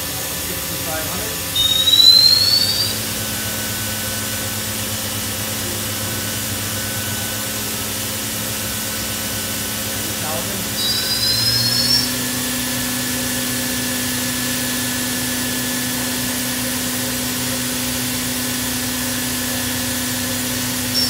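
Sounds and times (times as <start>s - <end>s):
machine spindle hum and whine: 0.0s - 21.0s.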